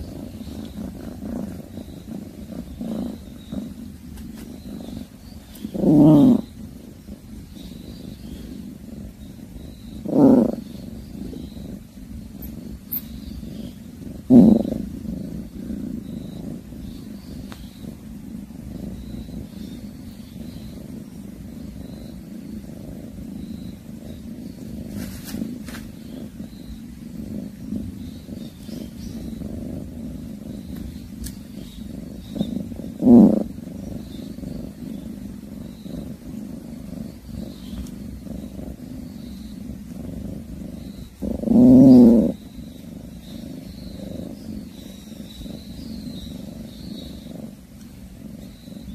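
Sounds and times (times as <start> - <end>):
cat purring: 0.0 - 48.9.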